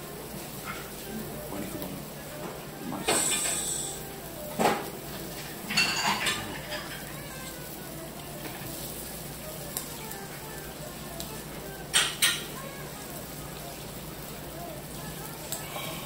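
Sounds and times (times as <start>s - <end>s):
meat sizzling on grill plate: 0.0s - 16.0s.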